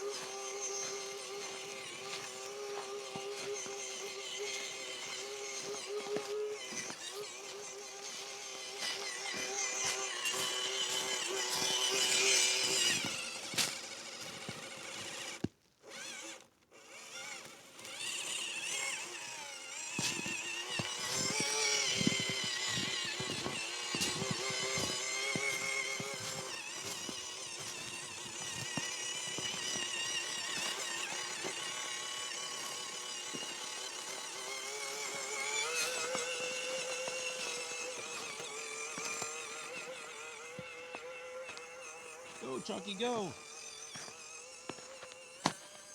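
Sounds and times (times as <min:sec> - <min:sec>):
toy car electric motor whining: 0:00.0 - 0:45.9.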